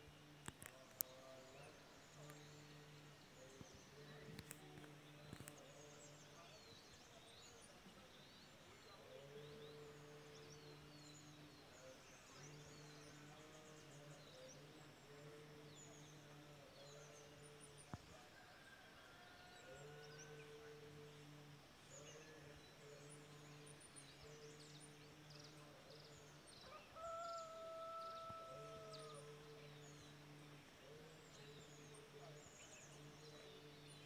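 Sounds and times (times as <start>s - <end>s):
birds chirping: 0.0s - 34.0s
distant monotone chanting: 0.0s - 34.0s.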